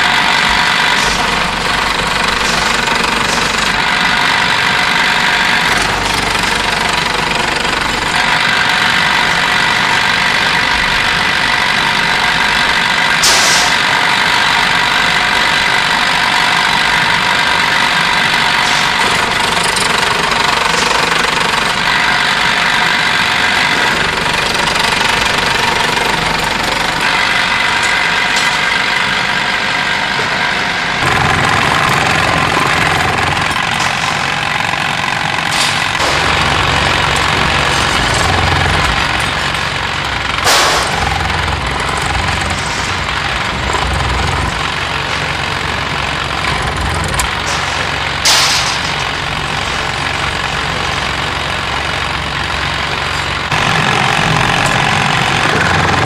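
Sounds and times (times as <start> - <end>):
power shear chopping steel: 0.0 - 56.0.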